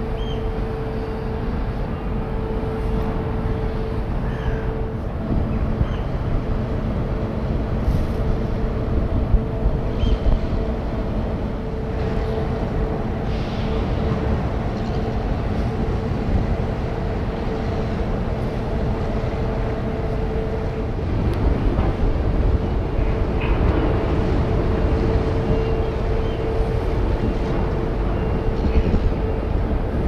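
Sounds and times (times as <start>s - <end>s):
ship engines rumbling: 0.0s - 30.0s
wind on microphone: 0.0s - 30.0s.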